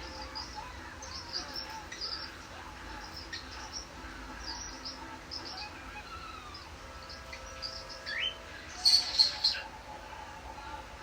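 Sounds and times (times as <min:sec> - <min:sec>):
cockatiel chirping: 0:00.0 - 0:09.7.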